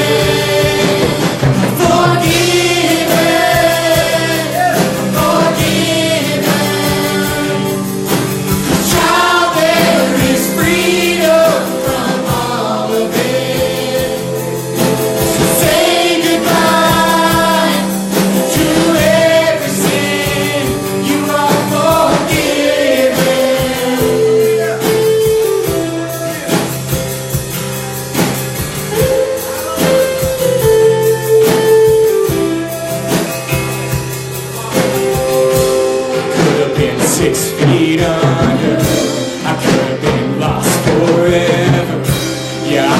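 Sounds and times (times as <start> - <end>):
group singing gospel song: 0.0 - 27.3, 34.4 - 42.9
instrumental accompaniment with beat: 0.0 - 42.9.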